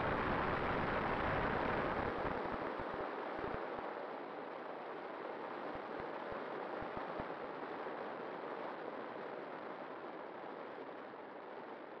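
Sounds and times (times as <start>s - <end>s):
low wind buffets on microphone: 0.0s - 12.0s.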